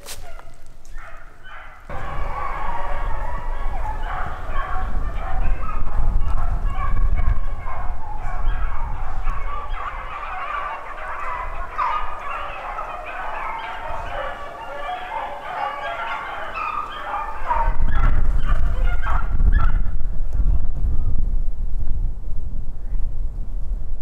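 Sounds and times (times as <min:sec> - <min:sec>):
hounds baying and yelping: 0:00.0 - 0:19.9
wind rumble on microphone: 0:00.0 - 0:24.0.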